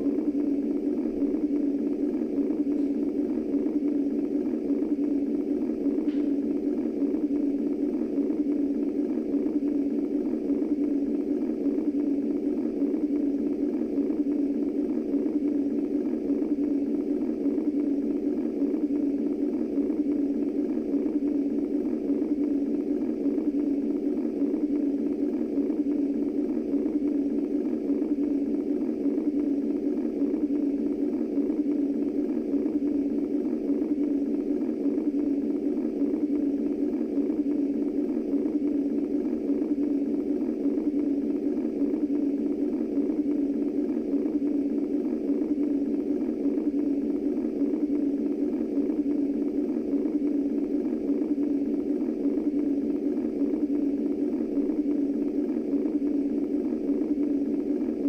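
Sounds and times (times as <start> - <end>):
steady low-pitched white noise: 0.0 - 58.0.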